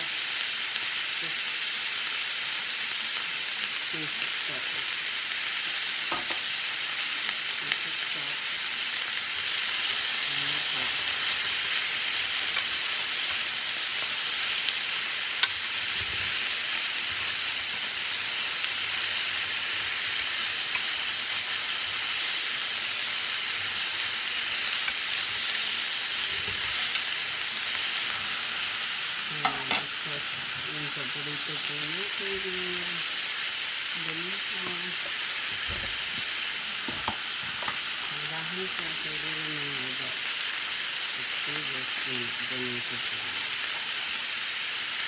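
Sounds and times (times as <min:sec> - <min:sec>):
vegetables sizzling in a pan: 0:00.0 - 0:45.0.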